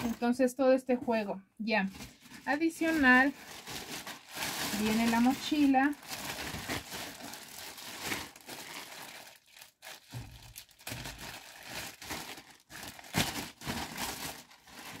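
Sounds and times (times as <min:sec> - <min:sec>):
plastic bag crinkling: 0:01.8 - 0:15.0.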